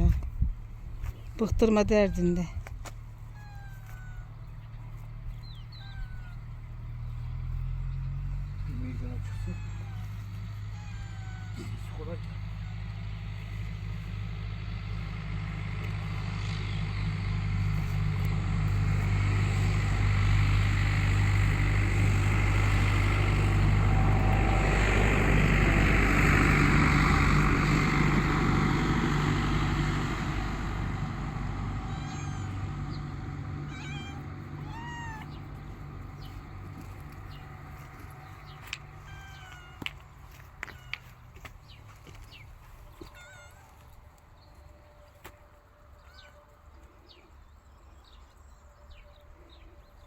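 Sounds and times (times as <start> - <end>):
vehicle engine hum: 0.0 - 50.0.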